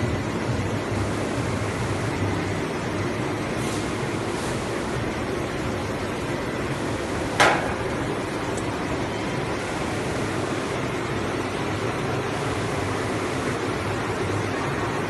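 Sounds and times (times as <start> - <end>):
printing press running: 0.0 - 15.0.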